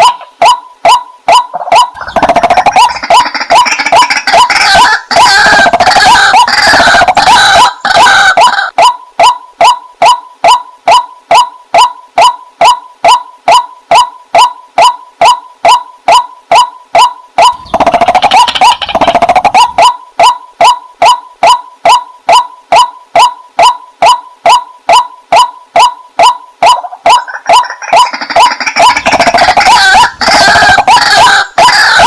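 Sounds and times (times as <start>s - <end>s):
waterhen calling: 0.0s - 11.9s, 16.5s - 32.0s.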